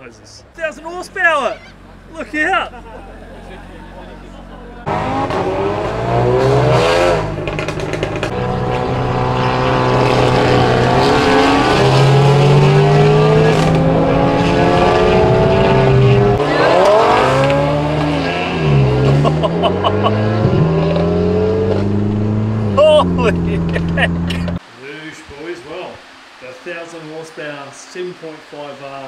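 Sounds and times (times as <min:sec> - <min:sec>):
engine crackling: 0:00.6 - 0:24.6
car engine accelerating: 0:00.8 - 0:24.6.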